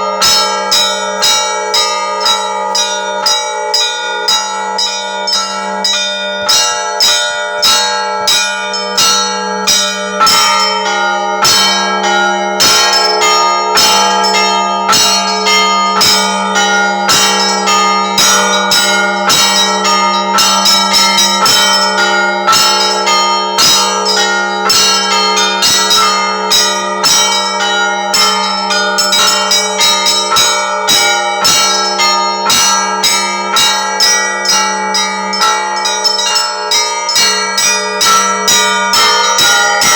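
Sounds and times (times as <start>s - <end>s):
large bell low hum: 0.0s - 39.9s
small church bells ringing rapidly: 0.0s - 39.9s.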